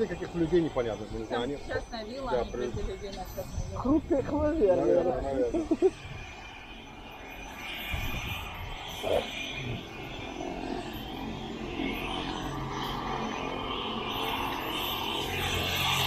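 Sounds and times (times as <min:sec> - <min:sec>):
helicopter engine and rotor hum: 0:00.0 - 0:16.0.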